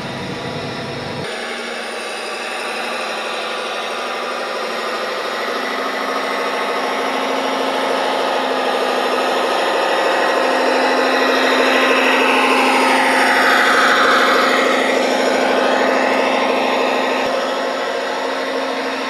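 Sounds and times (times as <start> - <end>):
model truck drive passing by: 0.0 - 19.0.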